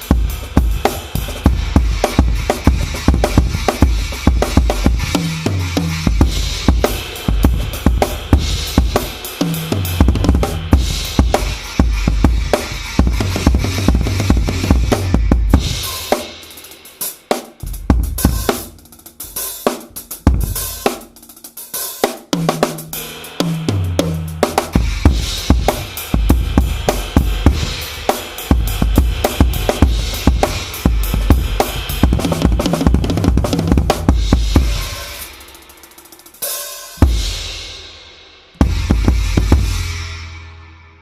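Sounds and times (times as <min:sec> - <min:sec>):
drum kit groove: 0:00.0 - 0:41.0.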